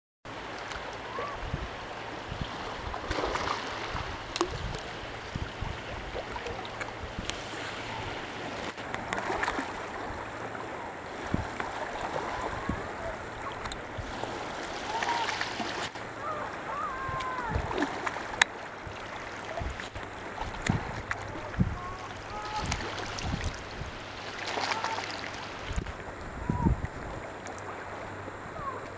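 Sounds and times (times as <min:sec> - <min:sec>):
gentle waves: 0:00.3 - 0:28.9
trickling shallow water: 0:00.3 - 0:28.9
wind buffeting microphone: 0:01.1 - 0:24.3, 0:25.5 - 0:28.9.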